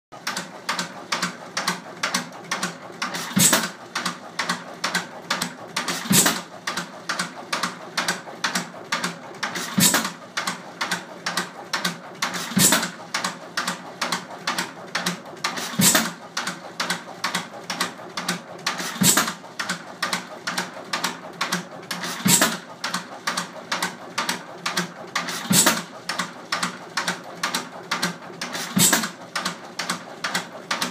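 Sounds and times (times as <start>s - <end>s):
rapid mechanical clicking: 0.2s - 30.9s.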